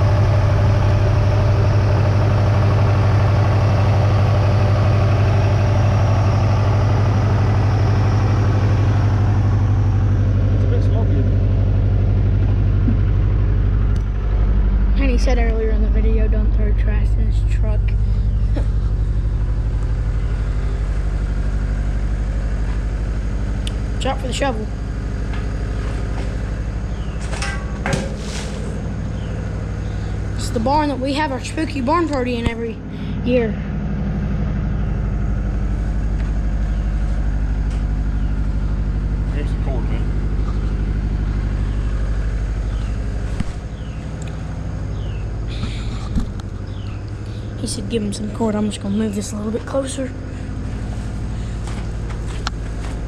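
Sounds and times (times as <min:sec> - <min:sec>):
engine idling with knock: 0:00.0 - 0:53.0.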